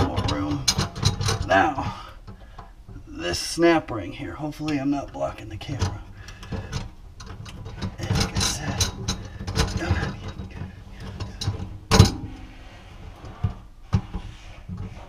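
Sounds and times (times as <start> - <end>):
small metal rattles: 0.0 - 3.1, 4.6 - 15.0.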